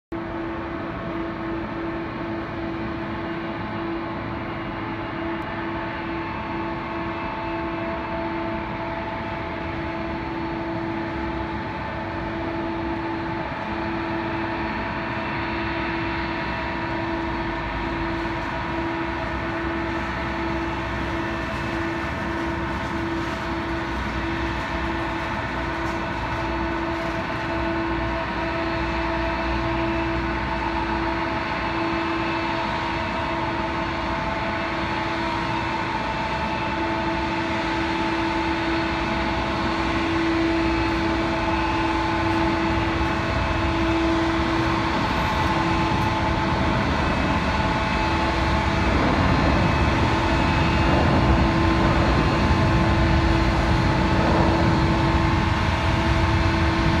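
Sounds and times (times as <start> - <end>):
jet engines idling: 0.1 - 57.0.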